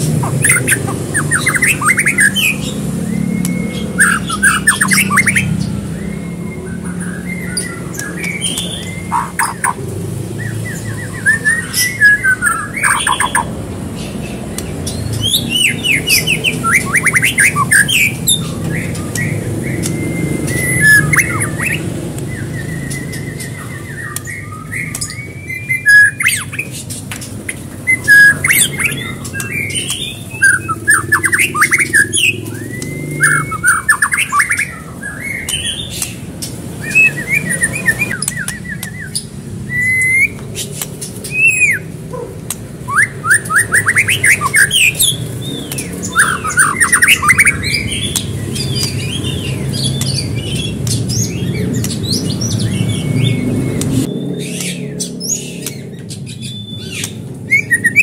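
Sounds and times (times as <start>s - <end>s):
songbird whistling and trilling: 0.0s - 58.0s.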